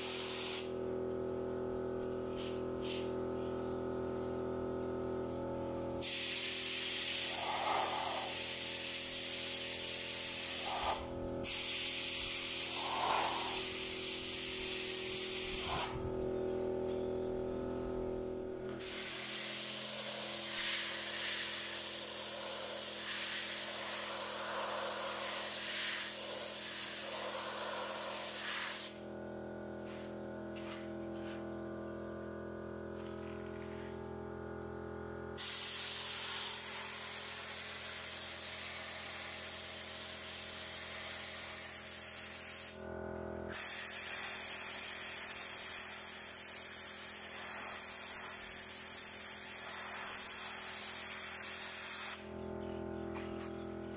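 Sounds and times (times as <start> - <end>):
paint spray gun hissing: 0.0 - 31.7, 33.0 - 42.9, 43.5 - 53.7.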